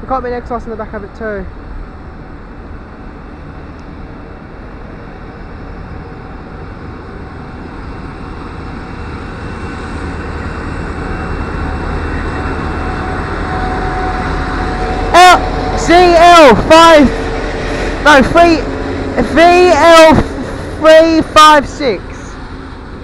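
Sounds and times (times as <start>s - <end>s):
freight train engine and wheel rumble: 0.0s - 23.0s.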